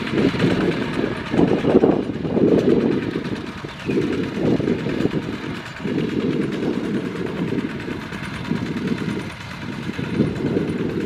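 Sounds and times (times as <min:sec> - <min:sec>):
walking tractor engine running: 0:00.0 - 0:11.0.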